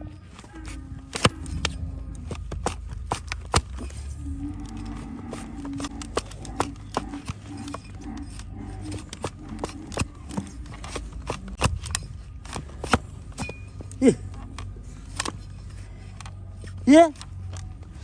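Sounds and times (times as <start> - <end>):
blade snapping and scraping hoof: 0.0 - 18.0.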